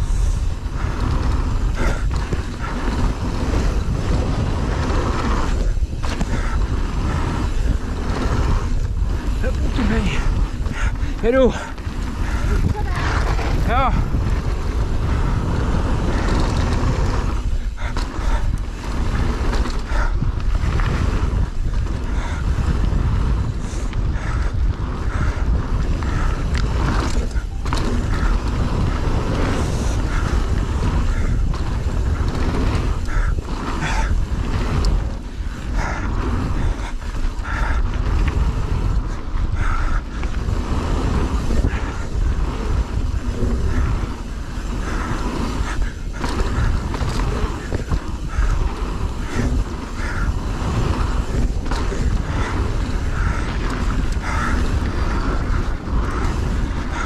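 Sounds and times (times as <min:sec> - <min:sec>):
bike knocks and rattles: 0:00.0 - 0:57.0
wind and rolling tyres rumble: 0:00.0 - 0:57.0.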